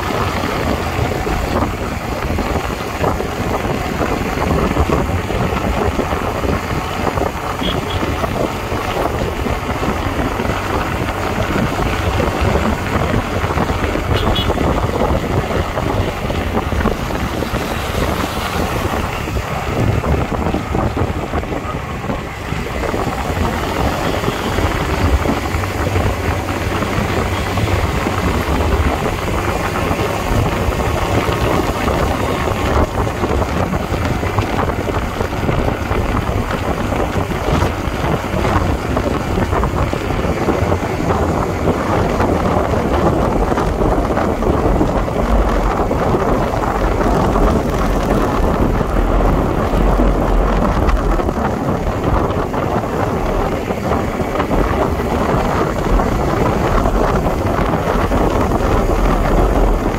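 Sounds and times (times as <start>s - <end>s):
tyre noise: 0.0s - 59.9s
wind buffeting microphone: 0.0s - 59.9s.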